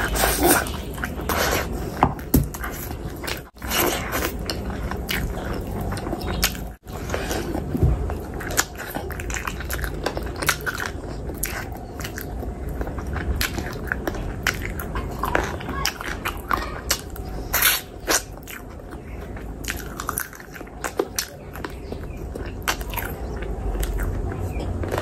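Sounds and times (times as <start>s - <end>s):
wet chewing and biting: 0.0s - 25.0s.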